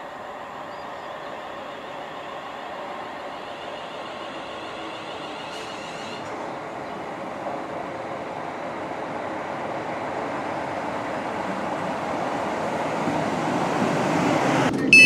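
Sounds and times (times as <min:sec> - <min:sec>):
electric train pulling in: 0:00.0 - 0:15.0.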